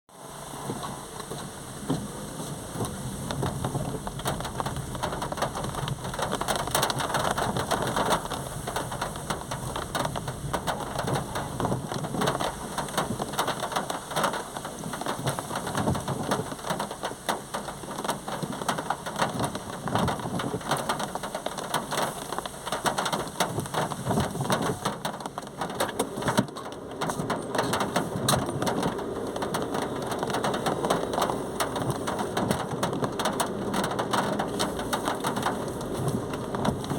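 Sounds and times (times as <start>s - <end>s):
heavy rain falling: 0.2s - 36.9s.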